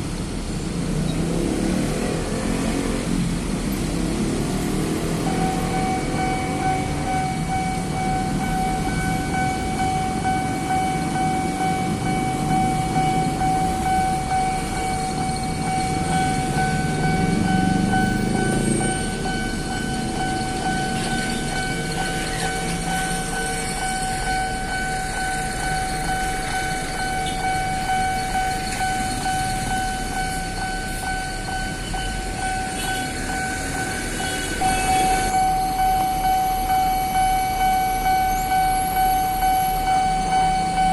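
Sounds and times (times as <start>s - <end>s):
crossing warning signal tone: 0.0s - 40.9s
electric train rumbling past: 0.0s - 40.9s.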